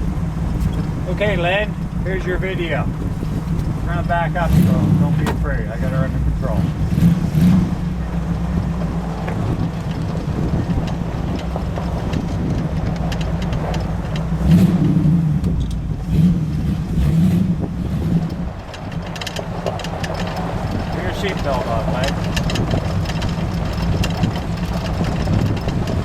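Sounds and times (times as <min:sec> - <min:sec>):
engine revving through exhaust: 0:00.0 - 0:26.0.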